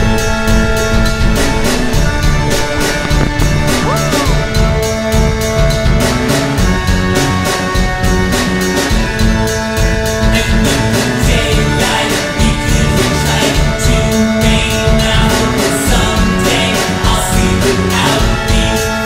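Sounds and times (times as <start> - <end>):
song with guitar and drums: 0.0 - 19.0.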